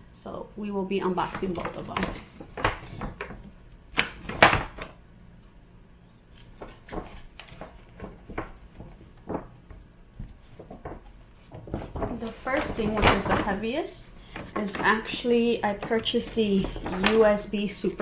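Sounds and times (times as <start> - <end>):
packaging rustling: 1.1 - 5.0, 6.3 - 18.0.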